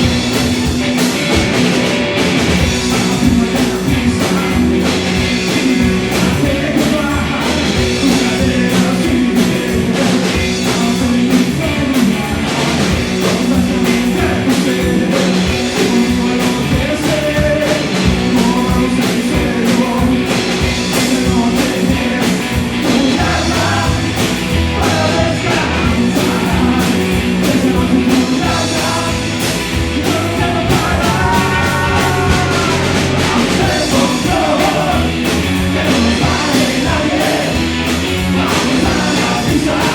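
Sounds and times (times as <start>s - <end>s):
live rock band playing: 0.0s - 39.9s
person singing: 2.7s - 39.9s.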